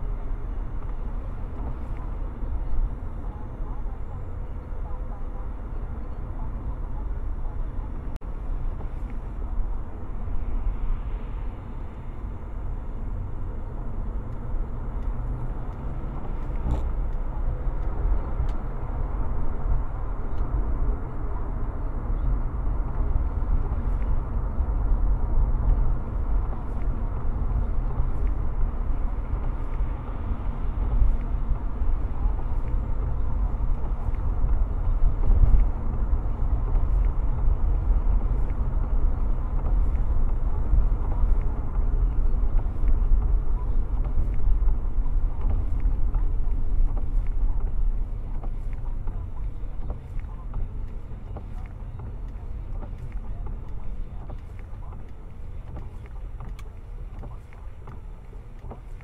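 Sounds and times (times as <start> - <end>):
road and tyre noise in car: 0.0 - 59.0.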